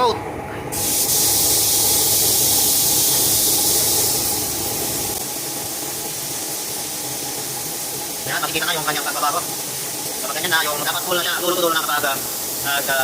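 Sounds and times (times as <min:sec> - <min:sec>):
spray gun hissing: 0:00.8 - 0:13.0.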